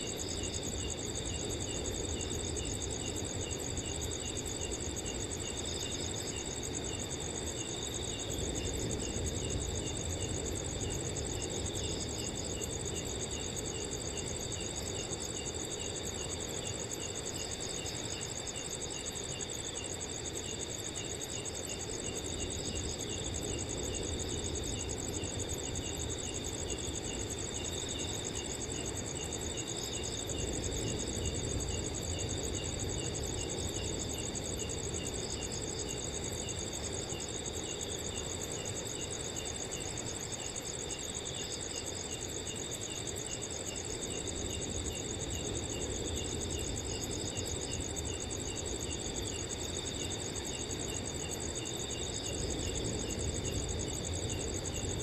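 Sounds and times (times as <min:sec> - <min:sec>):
crickets trilling: 0:00.0 - 0:55.0
slow repeating cricket chirp: 0:00.0 - 0:55.0.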